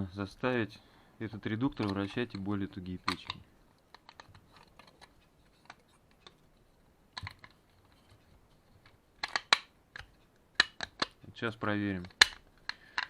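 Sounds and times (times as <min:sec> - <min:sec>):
plastic parts clicking: 0:01.5 - 0:13.0.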